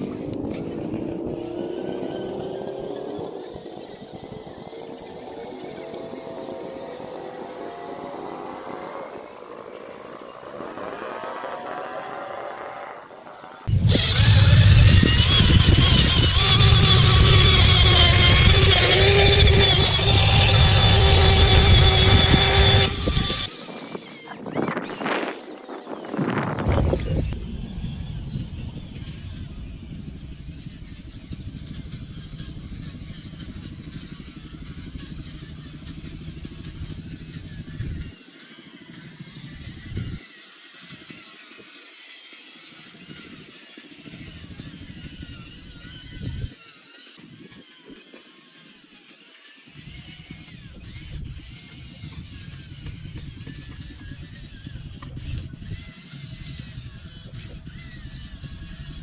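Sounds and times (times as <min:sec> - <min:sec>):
model truck motor rumbling: 0:00.0 - 0:38.1, 0:49.7 - 0:59.0.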